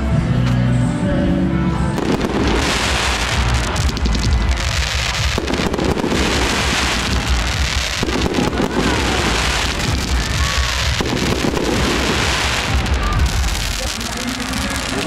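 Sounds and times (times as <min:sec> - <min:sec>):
fireworks crackling and popping: 0:02.0 - 0:15.0
low booming rumble: 0:02.0 - 0:15.0.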